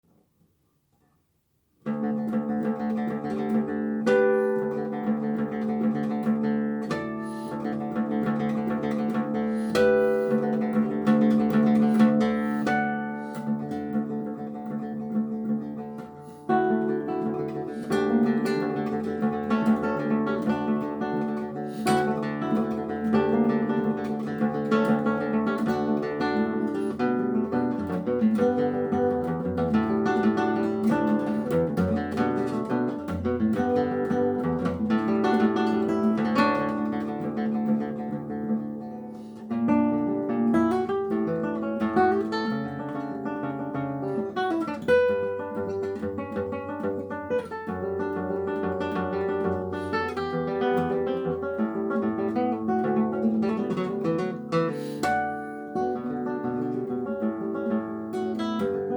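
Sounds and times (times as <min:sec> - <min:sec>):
fingerpicked classical guitar: 0:01.0 - 0:58.9.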